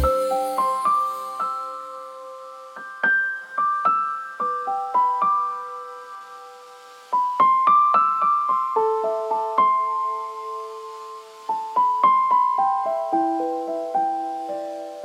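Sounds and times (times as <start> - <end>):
gentle piano-like keyboard melody: 0.0 - 15.0.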